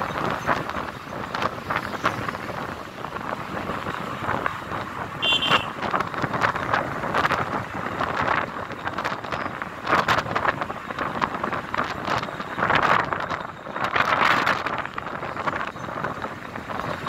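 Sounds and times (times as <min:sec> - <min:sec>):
road and engine noise: 0:00.0 - 0:17.0
wind buffeting microphone: 0:00.0 - 0:17.0.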